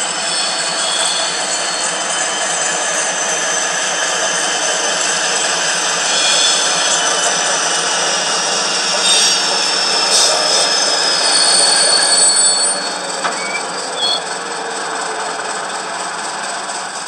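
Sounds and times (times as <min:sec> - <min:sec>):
high-pitched wheel squeal: 0:00.0 - 0:17.0
model train running: 0:00.0 - 0:17.0.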